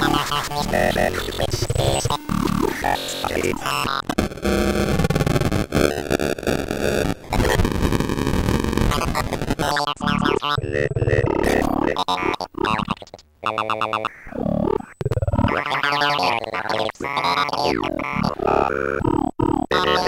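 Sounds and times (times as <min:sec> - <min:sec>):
glitched synthesizer stutters: 0:00.0 - 0:20.0.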